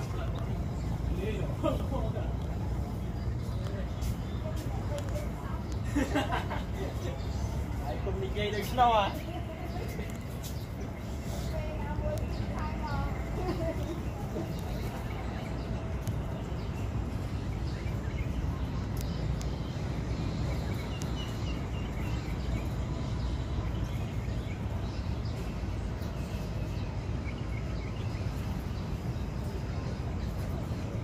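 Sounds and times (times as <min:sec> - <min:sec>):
low outdoor background rumble: 0:00.0 - 0:31.0.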